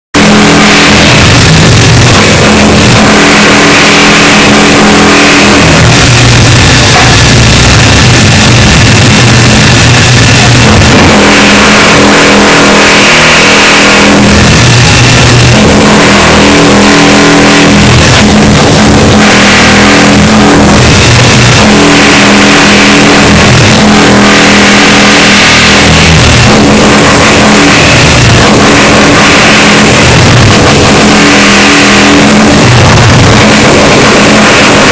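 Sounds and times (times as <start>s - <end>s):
distorted construction noise: 0.0s - 34.9s
motorised machine running: 0.1s - 34.9s.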